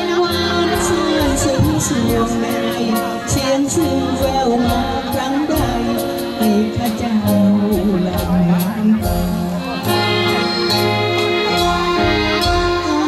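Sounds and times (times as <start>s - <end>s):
woman singing: 0.0s - 9.2s, 11.5s - 13.0s
accordion chords: 0.0s - 13.0s
guitar: 0.0s - 13.0s.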